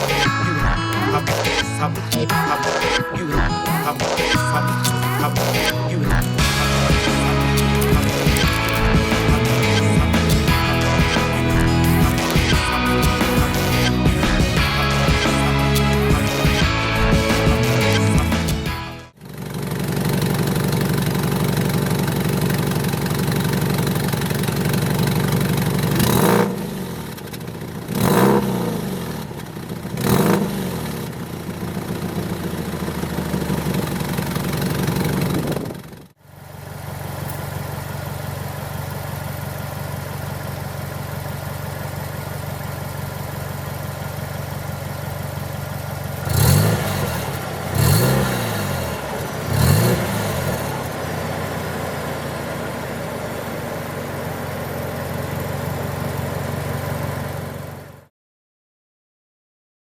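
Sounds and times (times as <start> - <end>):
car engine idling and revving: 0.0 - 2.2, 4.6 - 58.1.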